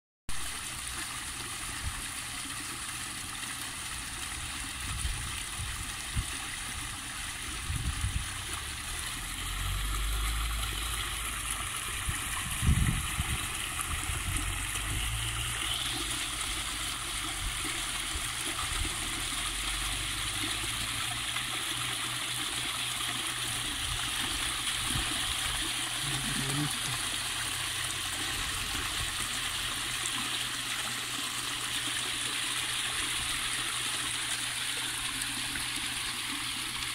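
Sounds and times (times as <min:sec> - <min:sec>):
waterfall pouring into pool: 0:00.3 - 0:36.9.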